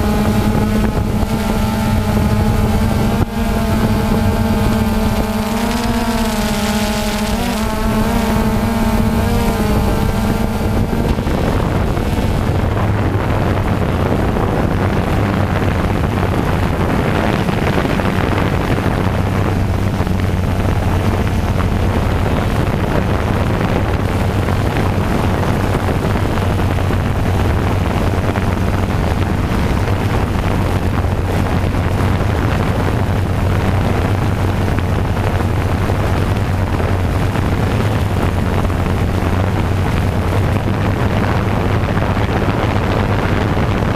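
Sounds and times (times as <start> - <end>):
drone motors humming: 0.0 - 43.9.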